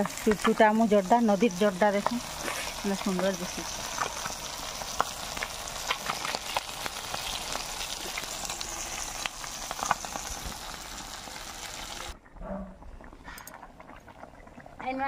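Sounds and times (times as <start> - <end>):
fish frying in hot oil: 0.0 - 12.2, 13.3 - 15.0.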